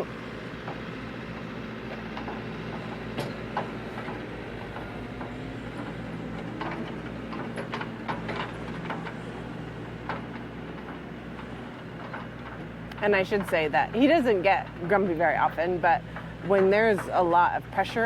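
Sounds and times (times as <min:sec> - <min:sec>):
diesel heavy equipment running: 0:00.0 - 0:18.0.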